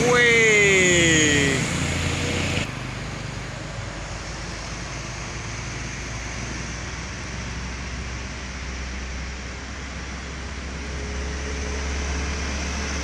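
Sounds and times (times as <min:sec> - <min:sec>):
heavy vehicle engine drone: 0:00.0 - 0:13.0.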